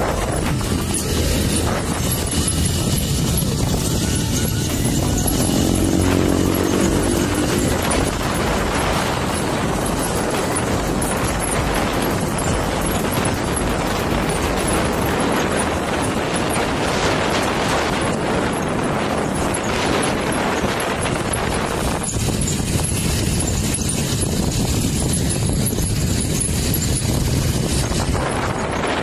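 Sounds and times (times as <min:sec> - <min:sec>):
motorcycle engine and road noise: 0:00.0 - 0:29.0
wind buffeting microphone: 0:00.0 - 0:29.0.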